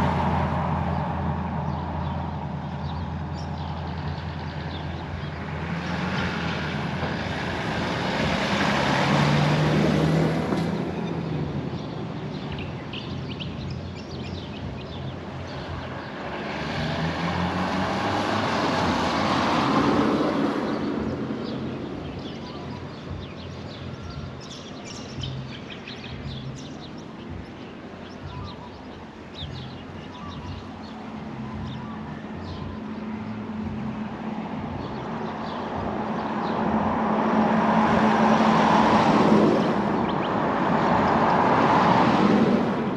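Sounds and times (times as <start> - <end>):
vehicles passing: 0.0 - 42.9.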